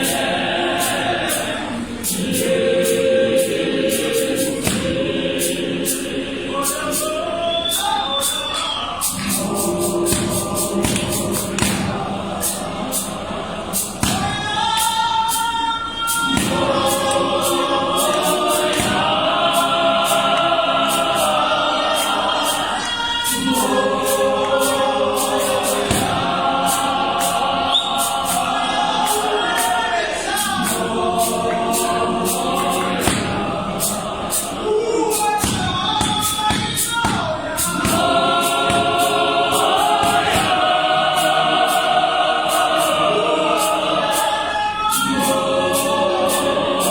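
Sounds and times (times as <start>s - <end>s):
sharp percussive hits: 0.0s - 6.1s, 9.0s - 15.5s, 16.1s - 22.7s, 23.3s - 29.8s, 30.4s - 44.3s
gospel choir singing: 0.0s - 46.9s.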